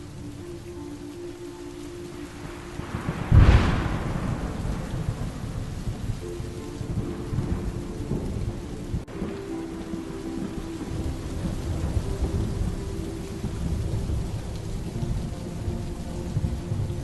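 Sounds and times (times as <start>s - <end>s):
steady rain: 0.0s - 17.0s
thunderclap and rolling thunder: 0.0s - 17.0s.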